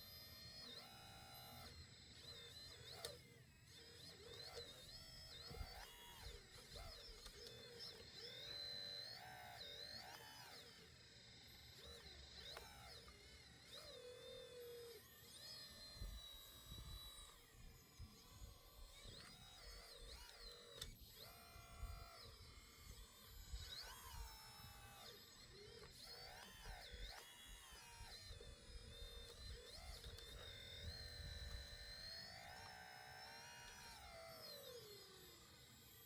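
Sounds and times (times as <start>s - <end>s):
small electric motors whining: 0.0s - 36.0s.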